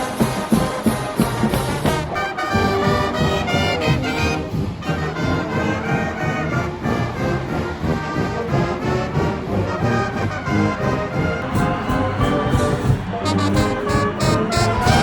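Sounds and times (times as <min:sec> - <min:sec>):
marching band brass playing: 0:00.0 - 0:15.0.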